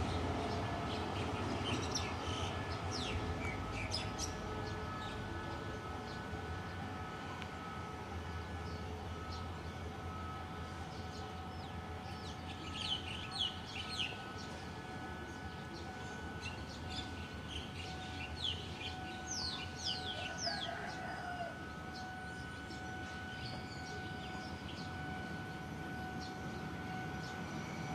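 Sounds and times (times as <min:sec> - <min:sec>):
steady background hum: 0:00.0 - 0:27.9.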